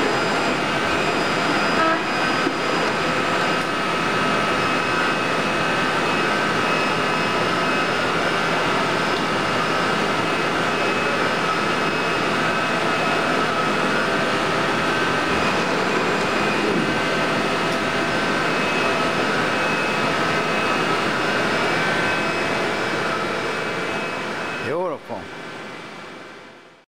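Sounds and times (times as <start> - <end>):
machine hum and whine: 0.0 - 26.8.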